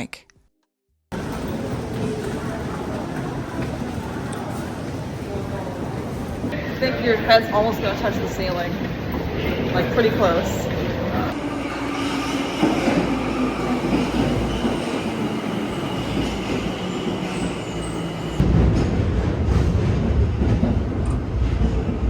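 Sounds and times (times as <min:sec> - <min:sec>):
train wheels rumbling on rails: 0:01.1 - 0:22.0.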